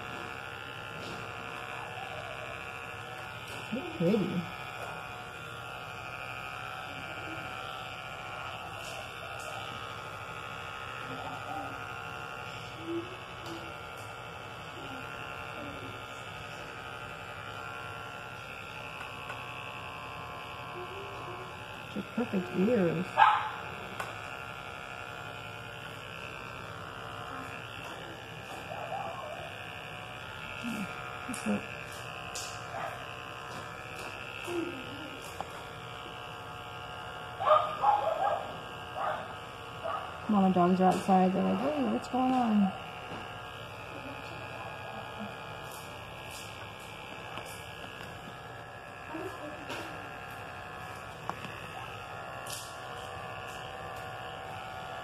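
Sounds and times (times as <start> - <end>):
electric clippers buzzing: 0.0 - 55.0.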